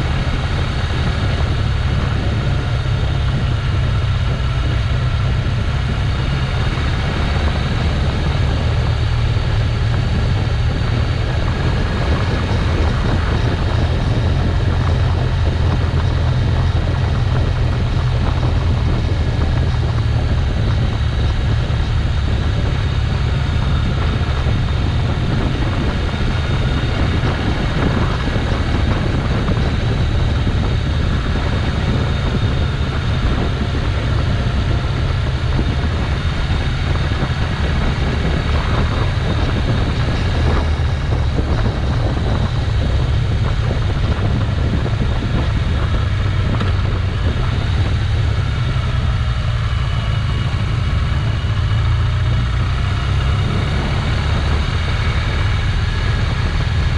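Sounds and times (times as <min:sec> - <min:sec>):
motorcycle engine running: 0:00.0 - 0:56.9
wind rumble on microphone: 0:00.0 - 0:56.9.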